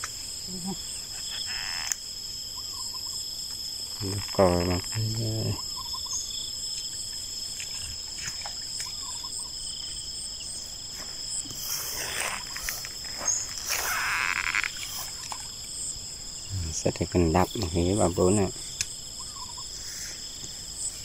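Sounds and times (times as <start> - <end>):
field insects chorus: 0.0 - 21.0.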